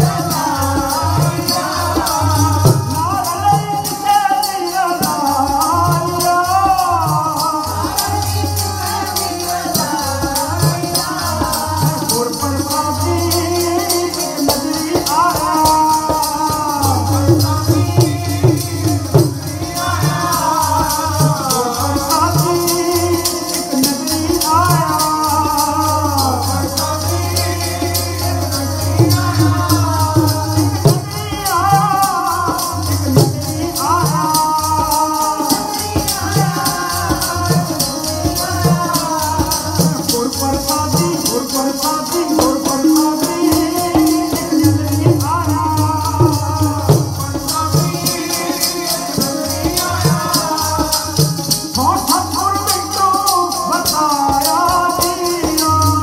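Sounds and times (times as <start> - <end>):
harmonium: 0.0 - 56.0
men singing a hymn: 0.0 - 56.0
tabla rhythm: 0.0 - 56.0.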